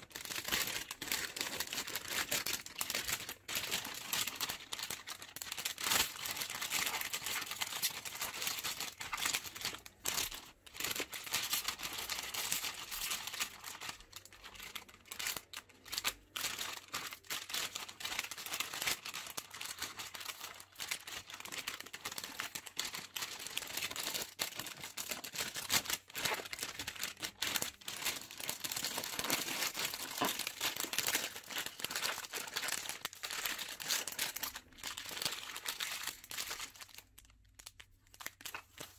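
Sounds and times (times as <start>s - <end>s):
plastic gift bag crinkling: 0.0s - 38.9s.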